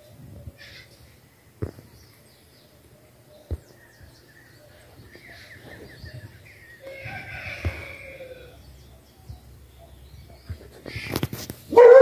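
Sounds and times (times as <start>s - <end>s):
small birds chirping: 0.0s - 11.8s
outdoor background noise: 0.0s - 12.0s.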